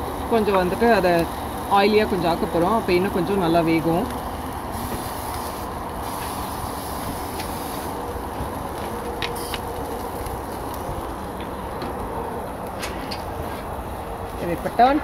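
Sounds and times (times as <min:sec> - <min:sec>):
cooking spray hissing: 0:00.0 - 0:15.0
gas grill rushing: 0:00.0 - 0:15.0.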